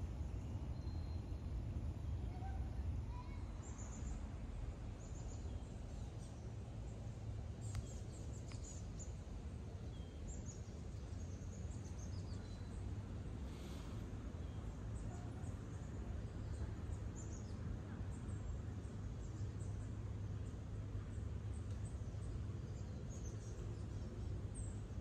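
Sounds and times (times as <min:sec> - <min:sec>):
steady low rumble: 0:00.0 - 0:25.0
small birds chirping: 0:00.2 - 0:25.0.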